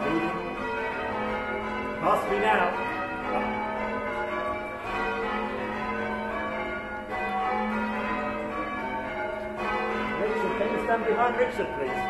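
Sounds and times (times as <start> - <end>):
church bells change ringing: 0.0 - 12.0.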